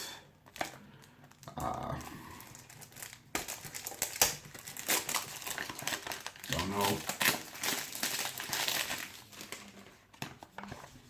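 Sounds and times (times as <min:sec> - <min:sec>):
box packaging crinkling: 0:00.4 - 0:11.0.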